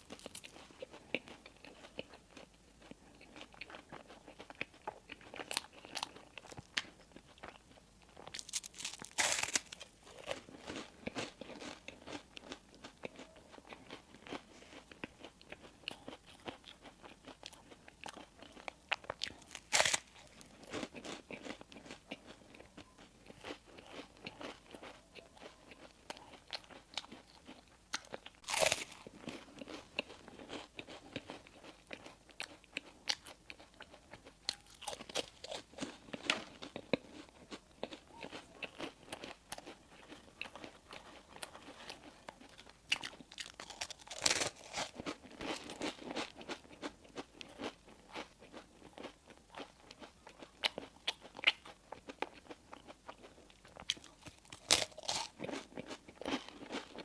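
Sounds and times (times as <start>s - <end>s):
chewing and biting bread: 0.0s - 57.0s.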